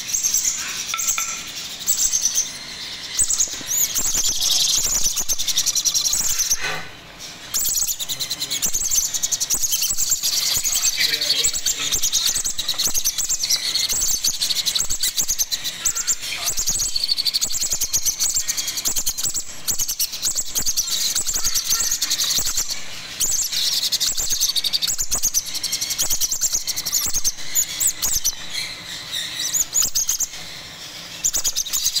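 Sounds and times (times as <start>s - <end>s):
parrot chicks begging chirps: 0.0s - 32.0s.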